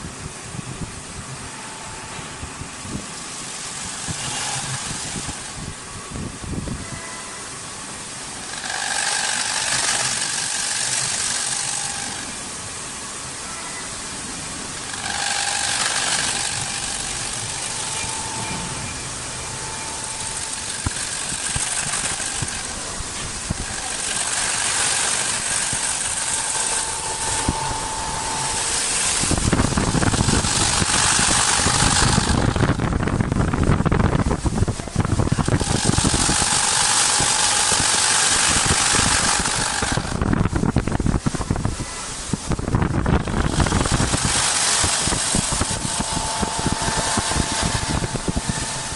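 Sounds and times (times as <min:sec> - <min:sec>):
lathe cutter hissing with whine: 0:00.0 - 0:48.9
rough noise with low rumble: 0:00.0 - 0:48.9.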